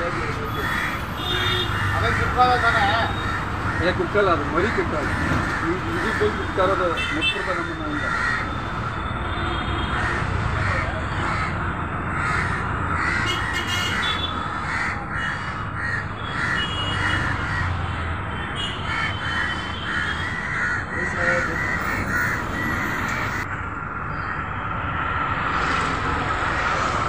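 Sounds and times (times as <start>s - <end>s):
crow cawing: 0.0s - 9.0s, 9.9s - 23.5s.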